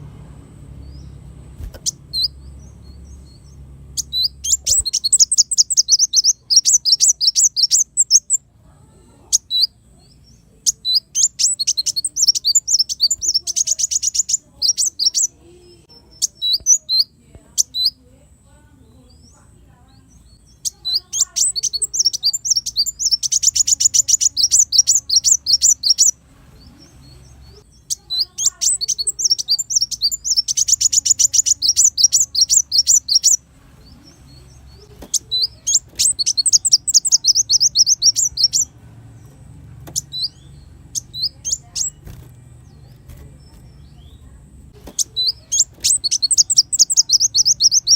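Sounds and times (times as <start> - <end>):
bird singing trilled song: 0.0 - 47.9.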